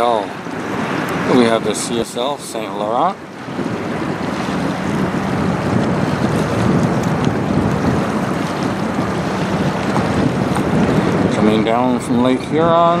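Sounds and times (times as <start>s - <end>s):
waves washing against rocks: 0.0s - 13.0s
wind noise on microphone: 0.0s - 13.0s.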